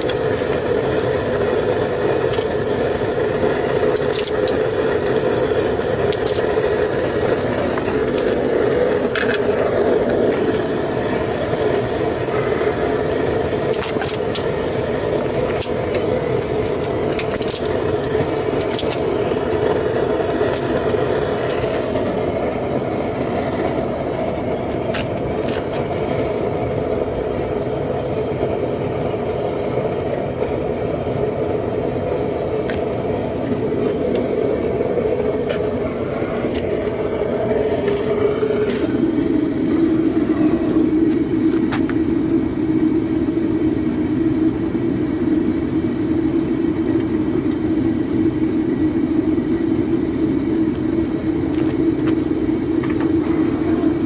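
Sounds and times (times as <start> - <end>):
furnace burner rushing: 0.0 - 54.0.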